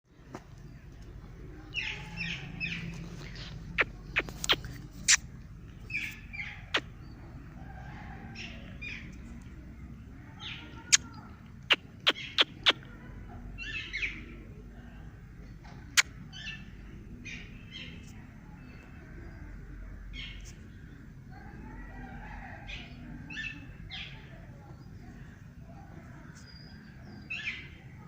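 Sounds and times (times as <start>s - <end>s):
birds chirping: 0.1s - 28.0s.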